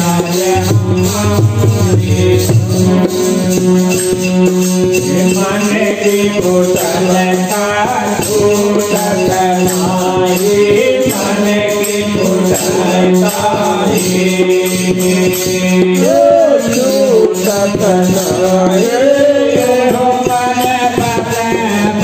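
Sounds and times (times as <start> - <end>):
person singing: 0.0 - 22.0
shaken hand percussion: 0.0 - 22.0.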